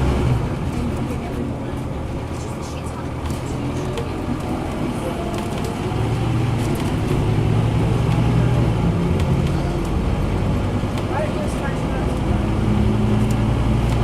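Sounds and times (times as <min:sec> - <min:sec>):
bus diesel engine under load: 0:00.0 - 0:14.0.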